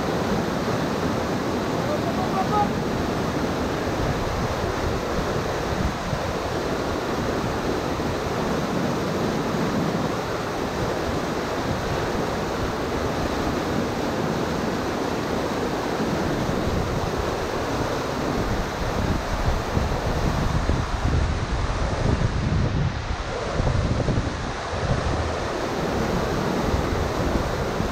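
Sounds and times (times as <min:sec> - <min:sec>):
whitewater rushing over rocks: 0:00.0 - 0:27.9.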